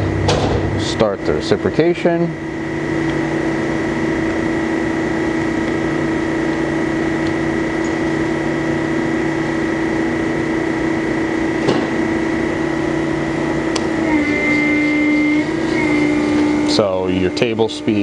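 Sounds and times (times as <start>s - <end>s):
surface grinder hum and whine: 0.0s - 18.0s.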